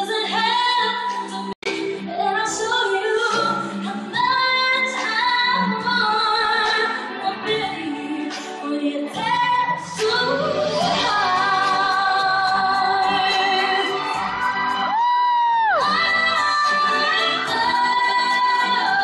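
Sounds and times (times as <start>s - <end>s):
musical accompaniment: 0.0s - 19.0s
woman singing pop song live: 0.0s - 19.0s.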